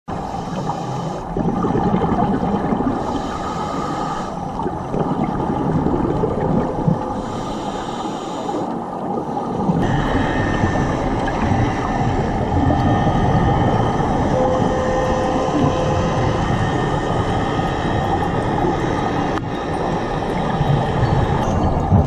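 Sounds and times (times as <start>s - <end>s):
underwater rumbling wash: 0.1s - 22.0s
hissing bubbles: 0.2s - 22.0s.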